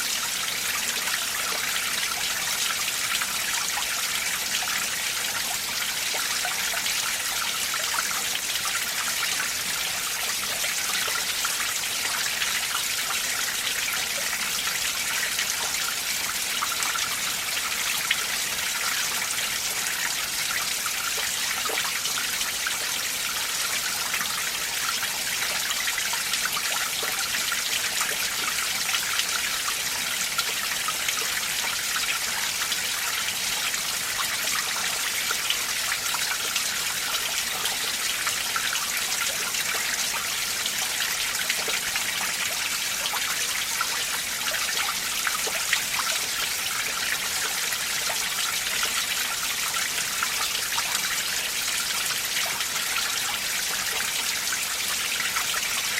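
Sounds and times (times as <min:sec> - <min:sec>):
stream trickling over rocks: 0:00.0 - 0:55.9.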